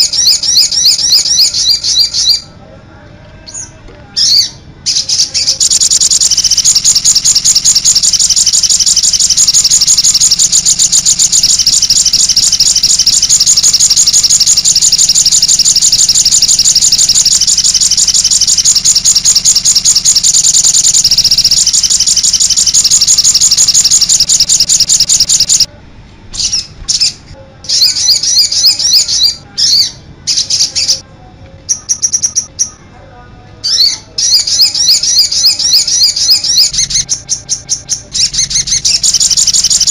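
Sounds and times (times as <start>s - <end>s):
songbird trilling: 0.0s - 2.4s, 3.5s - 25.7s, 27.7s - 31.0s, 31.7s - 32.8s, 33.7s - 39.9s.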